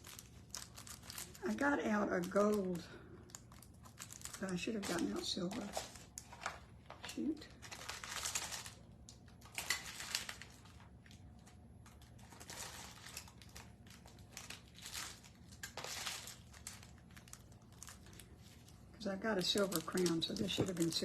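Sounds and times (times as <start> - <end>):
craft supplies crinkling and rustling: 0.0 - 21.0.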